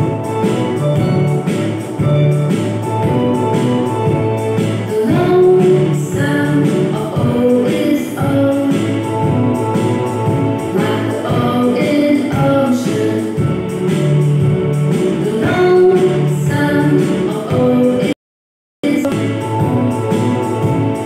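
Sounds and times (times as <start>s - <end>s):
children's song with instrumental backing: 0.0s - 18.2s, 18.8s - 21.0s.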